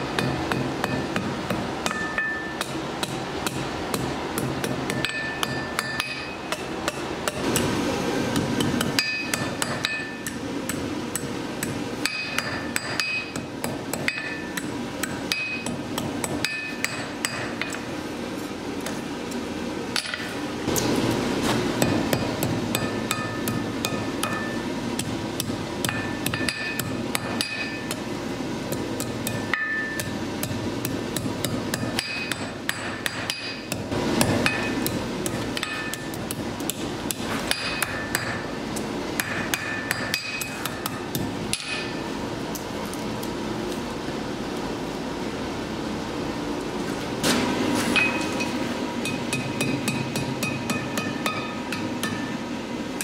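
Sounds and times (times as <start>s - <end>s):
hammer striking steel on anvil: 0.0s - 17.9s, 19.9s - 42.6s, 47.3s - 52.4s.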